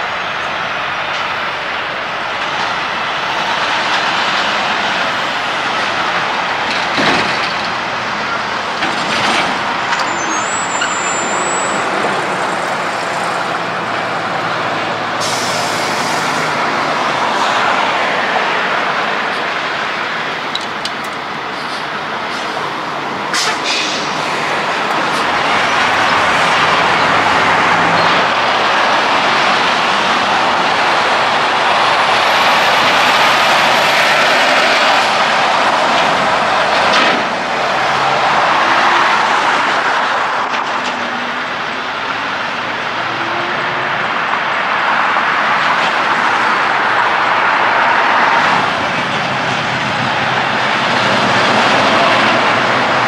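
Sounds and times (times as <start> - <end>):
diesel truck engines running: 0.0 - 53.0
tyres on the road: 0.0 - 53.0.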